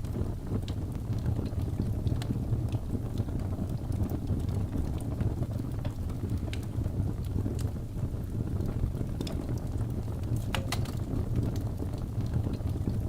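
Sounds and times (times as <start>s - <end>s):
logs crackling and popping: 0.0s - 13.0s
low rush of flame: 0.0s - 13.0s.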